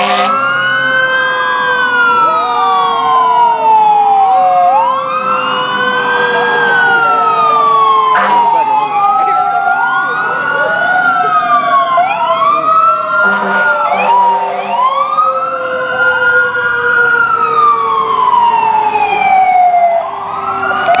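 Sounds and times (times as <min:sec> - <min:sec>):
sirens wailing: 0:00.0 - 0:21.0.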